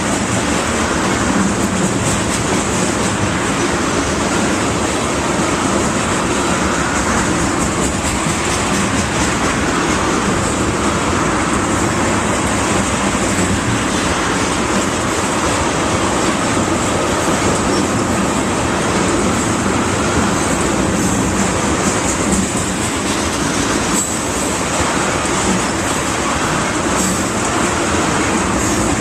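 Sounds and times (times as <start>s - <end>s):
train rumbling and rattling: 0.0s - 29.0s.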